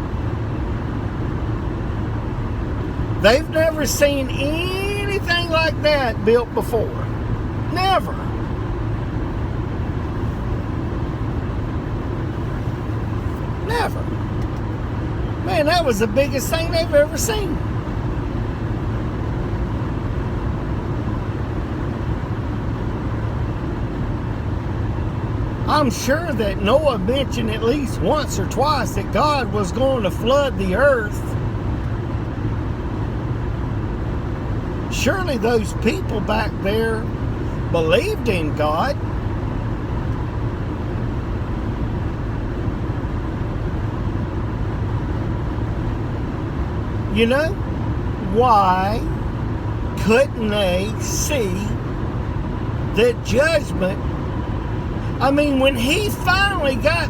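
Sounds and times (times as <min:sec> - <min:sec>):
vehicle road and engine rumble: 0:00.0 - 0:57.0.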